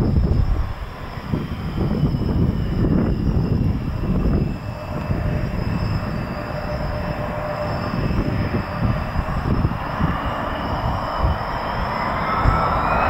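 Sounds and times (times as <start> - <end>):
high jet engine whine: 0.0 - 13.0
jet engines rumbling: 0.0 - 13.0.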